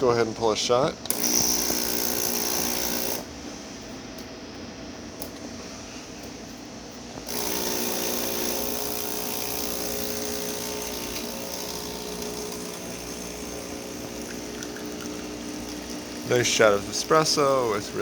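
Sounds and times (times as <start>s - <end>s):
espresso machine pump humming: 0.3s - 18.0s.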